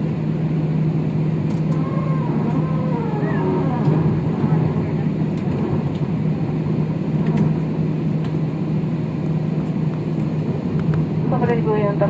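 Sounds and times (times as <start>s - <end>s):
jet engines humming in cabin: 0.0s - 12.0s.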